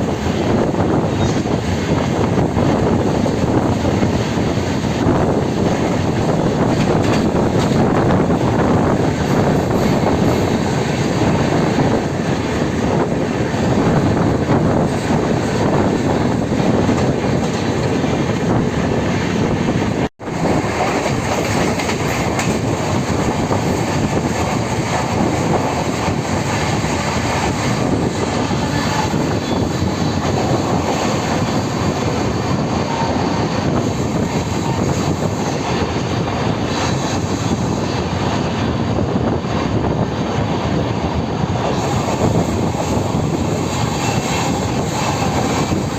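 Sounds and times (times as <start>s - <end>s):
train wheels rumbling on track: 0.0s - 45.9s.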